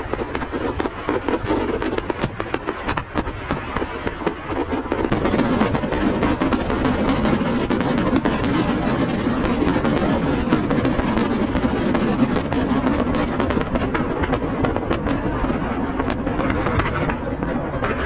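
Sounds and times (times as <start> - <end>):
fireworks popping and crackling: 0.0 - 18.0.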